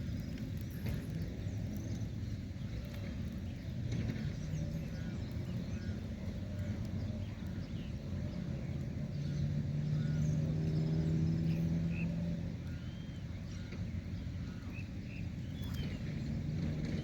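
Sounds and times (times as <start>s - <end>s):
birds chirping: 0.0s - 17.0s
motor passing by: 0.0s - 17.0s.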